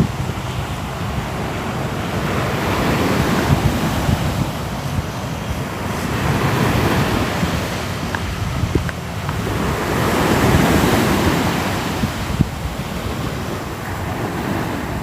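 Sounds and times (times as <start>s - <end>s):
sea waves washing in: 0.0s - 15.0s
wind on microphone: 0.0s - 15.0s.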